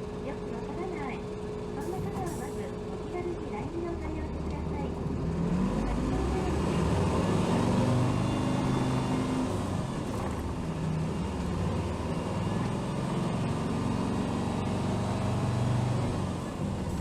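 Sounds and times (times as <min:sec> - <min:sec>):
bus diesel engine: 0:00.0 - 0:17.0.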